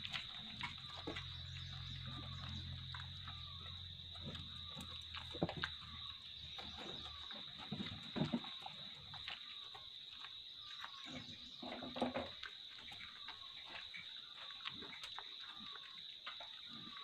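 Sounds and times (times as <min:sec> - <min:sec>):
calf munching feed: 0:00.0 - 0:17.0.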